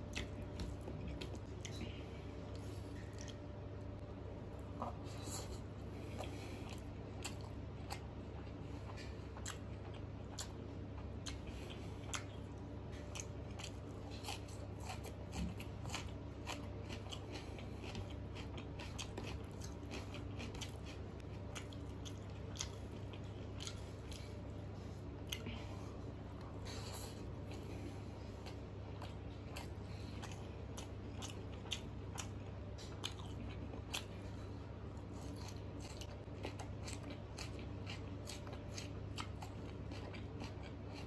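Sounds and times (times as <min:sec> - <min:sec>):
close chewing: 0:00.0 - 0:03.4, 0:04.6 - 0:41.0
steady low hum: 0:00.0 - 0:41.0.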